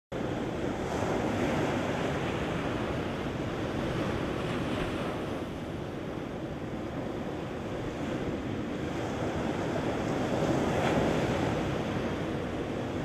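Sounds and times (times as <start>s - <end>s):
ocean surf breaking on sand: 0.2s - 13.0s.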